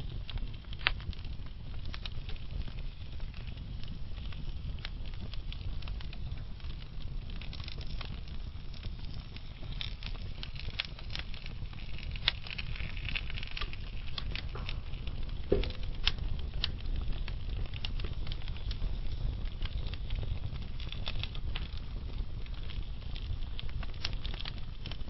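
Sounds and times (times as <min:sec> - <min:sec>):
logs crackling and popping: 0:00.0 - 0:25.0
low rumble of flame: 0:00.0 - 0:25.0.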